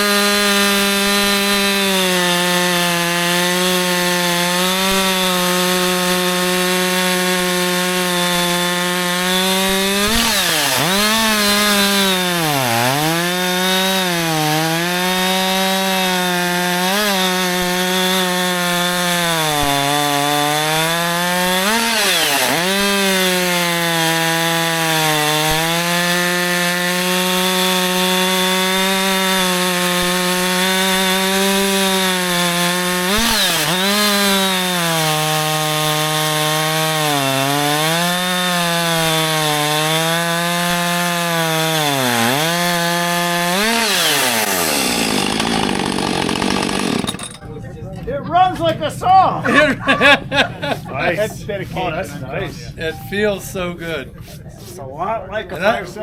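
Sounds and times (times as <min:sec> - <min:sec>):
chainsaw cutting wood: 0:00.0 - 0:47.4.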